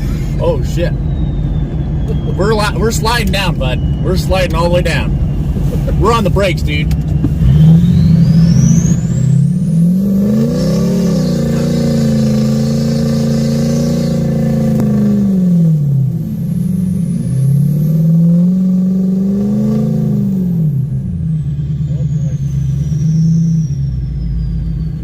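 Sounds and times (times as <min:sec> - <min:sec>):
diesel truck engine revving: 0:00.0 - 0:25.0.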